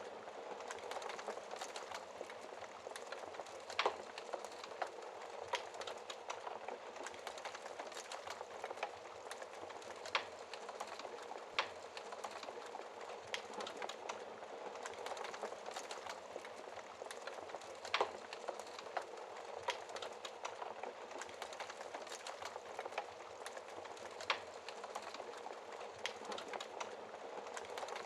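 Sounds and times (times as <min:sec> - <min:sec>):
logs burning in a fireplace: 0:00.0 - 0:28.0
fire crackling and popping: 0:00.2 - 0:28.0.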